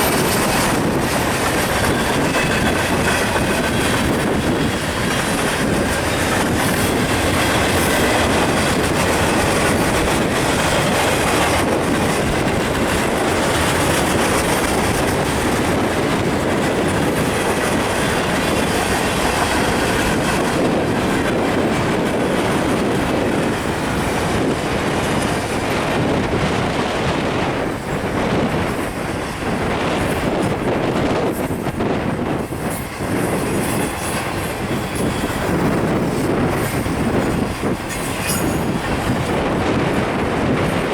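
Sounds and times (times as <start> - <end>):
freight train wheels clattering: 0.0 - 40.9.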